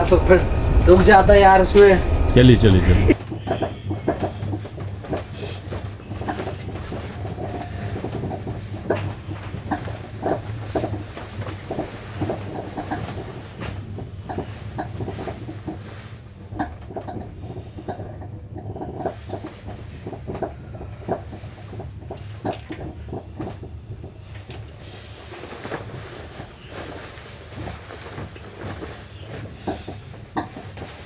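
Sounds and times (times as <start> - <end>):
train coach humming: 0.0 - 31.0
bedsheet rustling and flapping: 2.6 - 18.0, 18.8 - 31.0.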